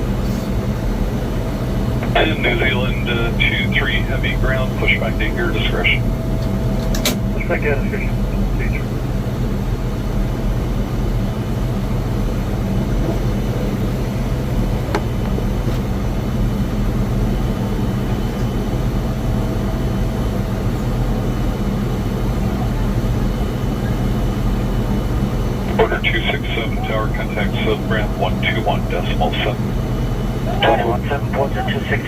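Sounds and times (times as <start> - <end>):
jet aircraft humming and whining: 0.0 - 32.0.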